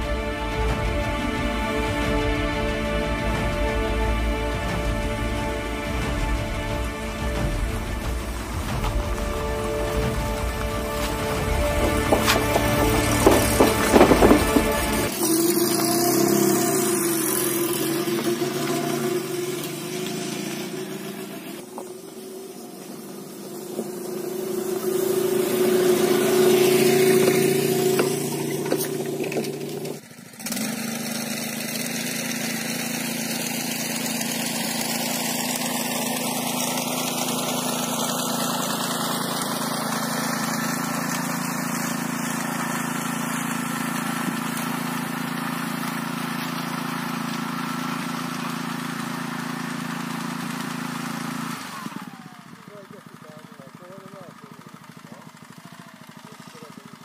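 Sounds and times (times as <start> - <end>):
engine running: 0.0 - 57.0
mower engine running: 0.0 - 57.0.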